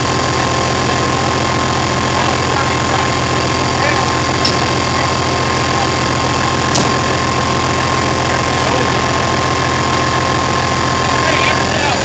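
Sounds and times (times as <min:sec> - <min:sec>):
high whine: 0:00.0 - 0:12.0
truck diesel engine idling: 0:00.0 - 0:12.0.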